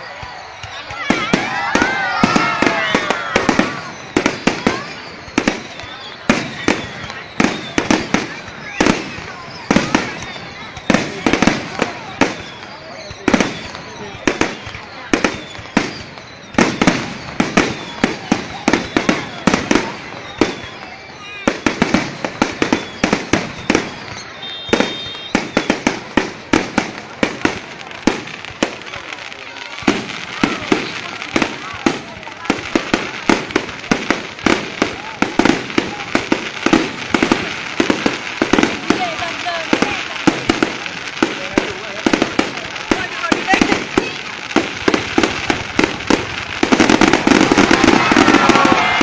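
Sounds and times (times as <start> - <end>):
crowd voices: 0.0 - 49.0
fireworks background rumble: 0.0 - 49.0
fireworks bangs: 0.0 - 49.0.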